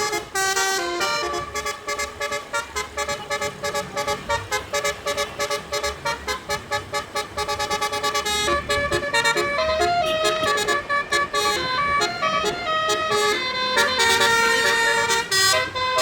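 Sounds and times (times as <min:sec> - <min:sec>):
electric air horn melody: 0:00.0 - 0:16.0.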